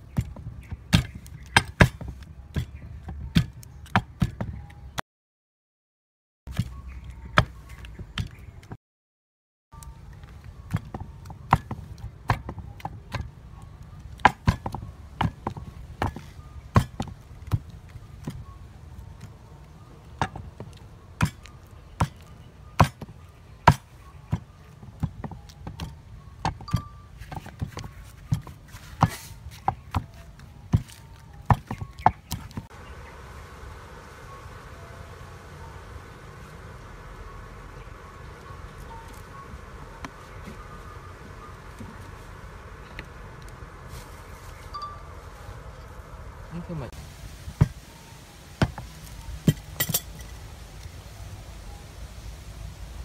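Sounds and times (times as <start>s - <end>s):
soft steady hiss: 9.8s - 53.0s.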